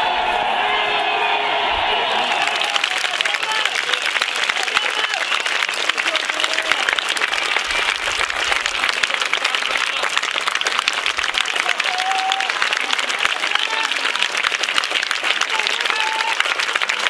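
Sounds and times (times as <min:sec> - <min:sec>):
voices calling out: 0:00.0 - 0:16.7
crowd clapping: 0:01.6 - 0:17.0.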